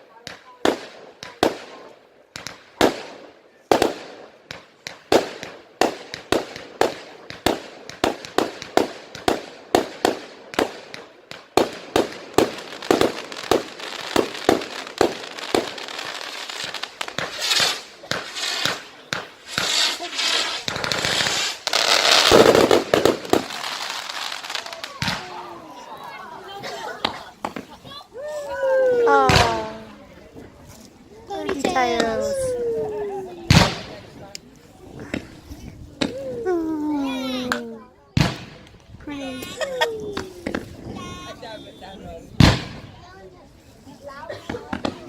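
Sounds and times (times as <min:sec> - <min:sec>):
fireworks bangs: 0:00.2 - 0:30.5, 0:31.3 - 0:34.3, 0:35.0 - 0:43.2, 0:44.4 - 0:45.0
fireworks crackling hiss: 0:00.6 - 0:45.0.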